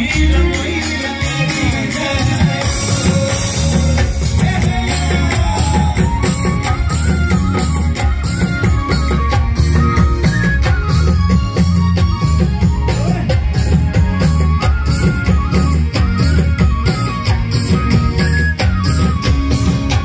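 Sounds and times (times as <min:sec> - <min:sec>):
folk band music: 0:00.0 - 0:20.0
heavy bass: 0:00.0 - 0:20.0
steady drum beat: 0:00.0 - 0:20.0.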